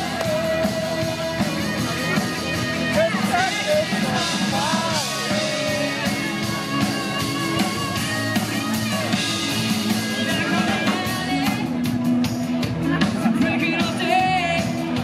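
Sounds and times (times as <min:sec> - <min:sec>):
drum kit beat: 0:00.0 - 0:15.0
live band guitar music: 0:00.0 - 0:15.0.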